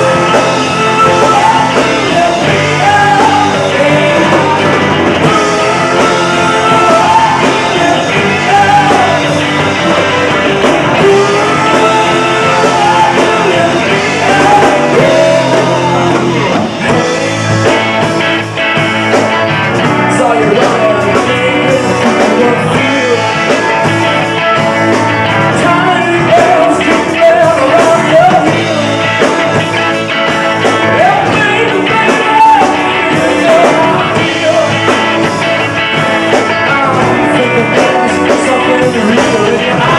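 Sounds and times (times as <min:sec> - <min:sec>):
man singing lead vocal: 0:00.0 - 0:18.8, 0:19.4 - 0:39.9
bass guitar: 0:00.0 - 0:39.9
drums: 0:00.0 - 0:39.9
electric guitar: 0:00.0 - 0:39.9.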